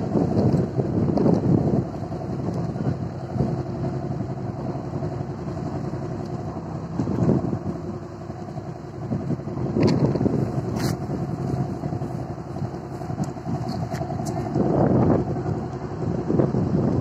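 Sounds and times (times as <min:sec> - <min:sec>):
engine humming: 0:00.0 - 0:17.0
wind buffeting microphone: 0:00.0 - 0:17.0.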